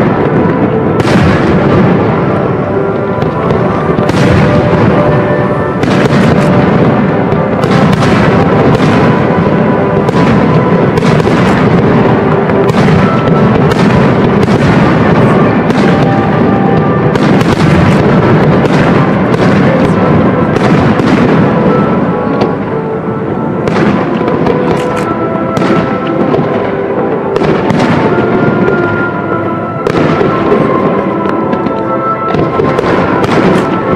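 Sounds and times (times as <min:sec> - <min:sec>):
fireworks bursting: 0:00.0 - 0:33.9
music playing: 0:00.0 - 0:33.9.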